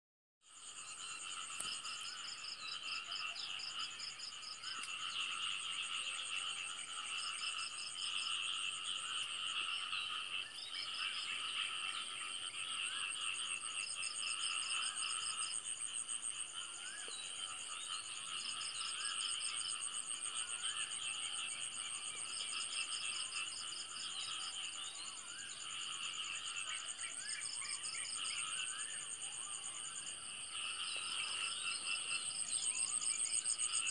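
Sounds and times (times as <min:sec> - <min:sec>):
frogs calling: 0:00.5 - 0:33.9.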